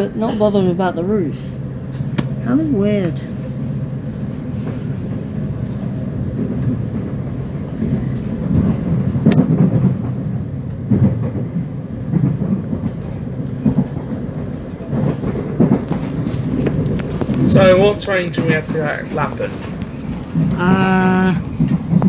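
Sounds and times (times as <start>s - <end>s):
train clattering over track: 0.0s - 22.0s
train wheels rumbling on rail: 0.0s - 22.0s.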